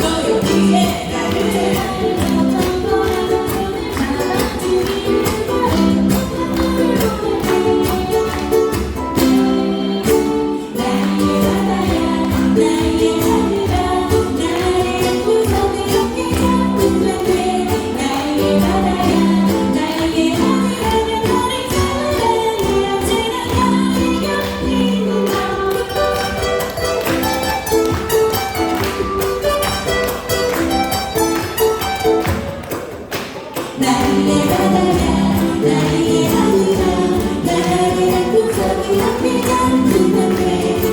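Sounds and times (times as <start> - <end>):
voices singing: 0.0 - 26.8, 33.4 - 40.9
ukuleles strumming: 0.0 - 40.9.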